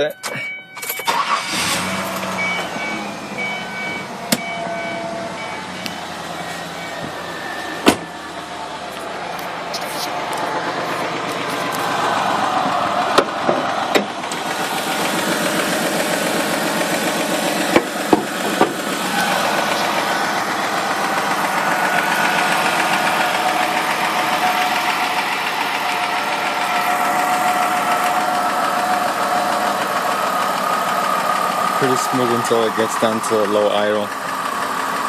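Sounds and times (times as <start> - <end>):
car engine idling roughly: 1.1 - 35.0.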